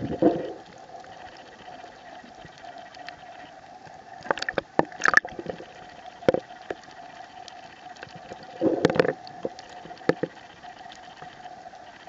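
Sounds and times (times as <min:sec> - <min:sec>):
faint underwater hum: 0:00.0 - 0:12.0.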